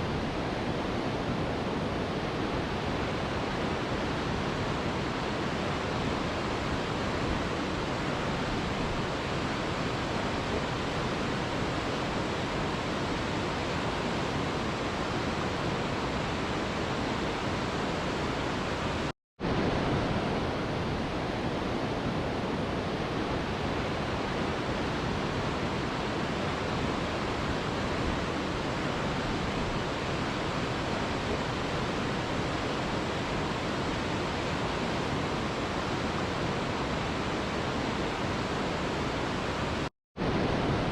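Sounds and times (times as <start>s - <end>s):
river rushing over rocks: 0.1s - 40.9s.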